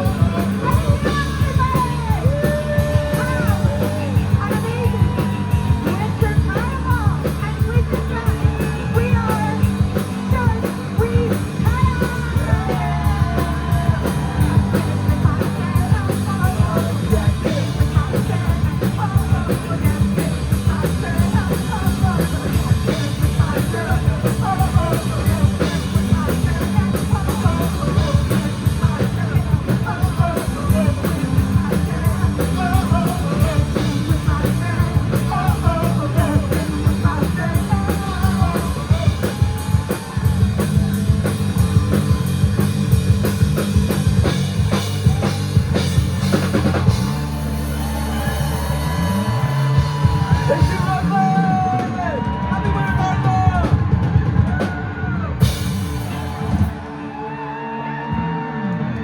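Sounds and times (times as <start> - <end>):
person singing or shouting: 0.0 - 42.1, 47.6 - 55.6
drum kit beat: 0.0 - 57.0
rock band playing: 0.0 - 59.0.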